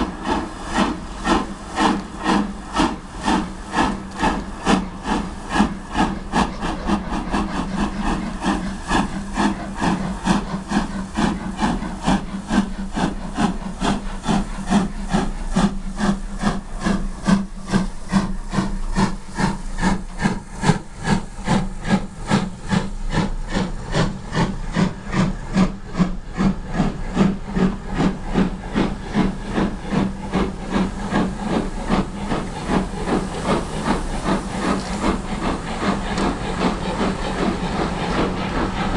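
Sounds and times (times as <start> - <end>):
steam locomotive exhaust beating: 0.0 - 38.9.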